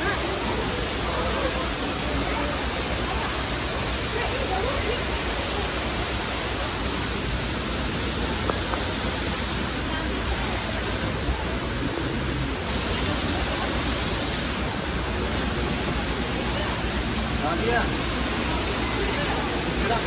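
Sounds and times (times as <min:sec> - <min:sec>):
murmur of many voices: 0:00.0 - 0:20.0
steady rushing noise: 0:00.0 - 0:20.0.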